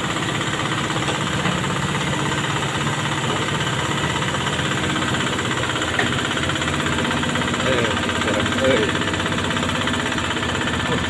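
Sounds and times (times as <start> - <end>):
diesel truck engine clattering: 0.0 - 11.0.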